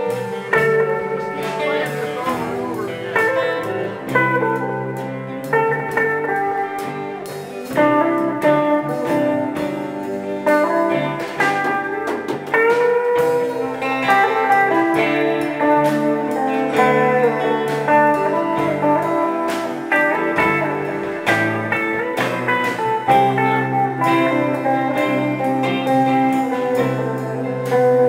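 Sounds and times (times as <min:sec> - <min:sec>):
bass guitar: 0:00.0 - 0:28.0
electric guitar lead: 0:00.0 - 0:28.0
strummed acoustic guitar: 0:00.0 - 0:28.0.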